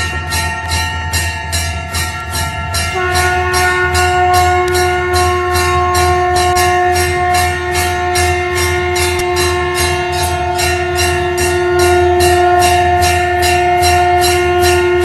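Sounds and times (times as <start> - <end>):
hand bell clanging rapidly: 0.0 - 15.0
conch shell blown: 2.7 - 15.0.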